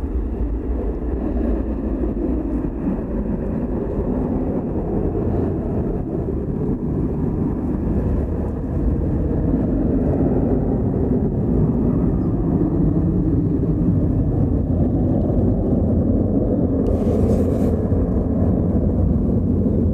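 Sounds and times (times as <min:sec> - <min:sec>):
jet engine rumble: 0:00.0 - 0:19.9.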